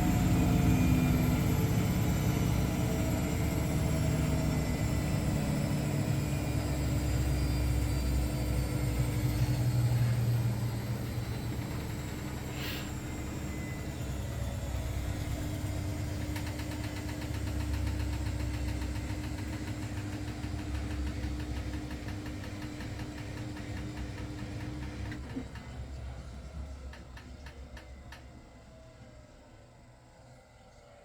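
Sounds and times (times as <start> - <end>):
washing machine spinning: 0.0 - 30.3.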